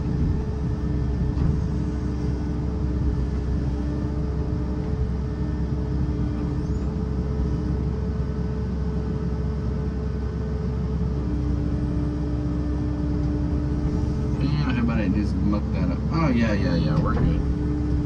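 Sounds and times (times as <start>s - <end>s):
hydraulic whine: 0.0s - 8.5s, 11.1s - 18.0s
excavator engine running: 0.0s - 18.0s.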